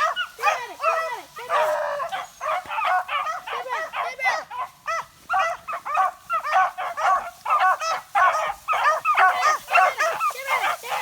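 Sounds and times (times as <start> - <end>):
dogs yelping: 0.0 - 11.0.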